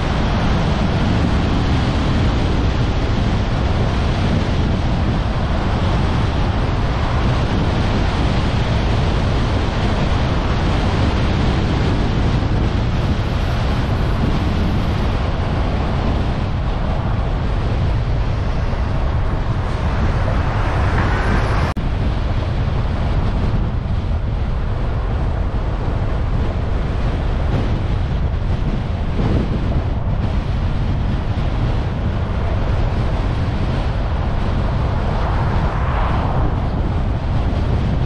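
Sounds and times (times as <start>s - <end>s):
car wind and road noise: 0.0s - 38.0s
wind buffeting microphone: 0.0s - 38.0s.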